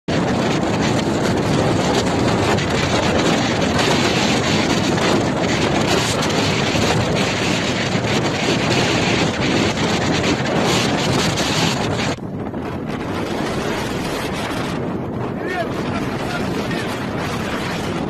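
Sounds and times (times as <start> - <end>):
blizzard wind buffeting microphone: 0.1 - 18.0.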